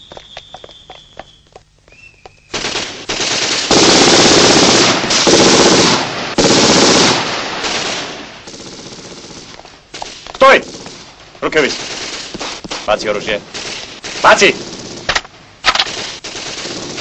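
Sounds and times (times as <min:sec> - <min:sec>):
automatic gunfire: 0:02.5 - 0:17.0.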